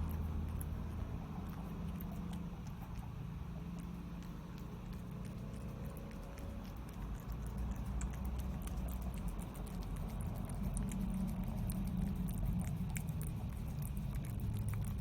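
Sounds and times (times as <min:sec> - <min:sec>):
cat chewing wet food: 0:00.0 - 0:15.0
steady low hum: 0:00.0 - 0:15.0.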